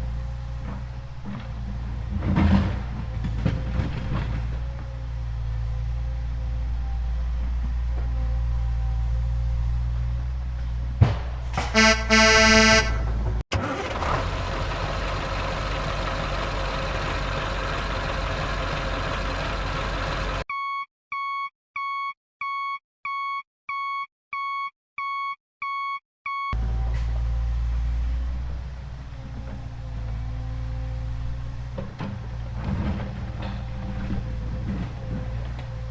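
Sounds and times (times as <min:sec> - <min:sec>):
vehicle engine rumble: 0:00.0 - 0:20.5, 0:26.6 - 0:35.9.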